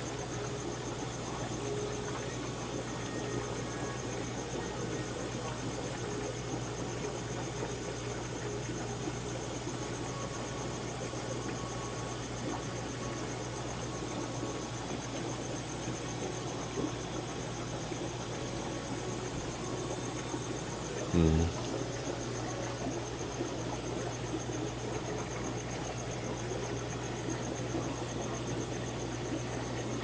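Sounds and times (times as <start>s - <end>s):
aquarium filters and pumps humming: 0.0s - 30.0s.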